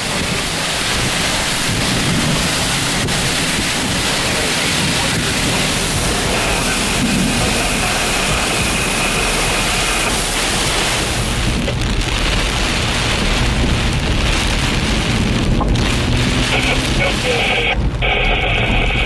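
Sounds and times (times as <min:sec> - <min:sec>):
heavy wind-driven rain: 0:00.0 - 0:19.0
strong wind: 0:00.0 - 0:19.0.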